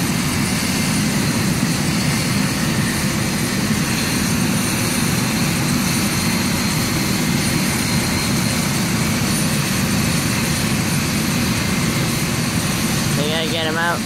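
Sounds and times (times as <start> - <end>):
loud low engine drone: 0.0 - 14.0.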